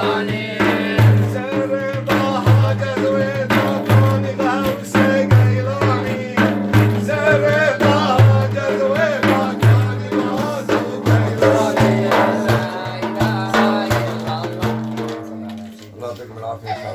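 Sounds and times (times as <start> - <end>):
man singing devotional song: 0.0 - 15.5
drum beats: 0.0 - 16.2.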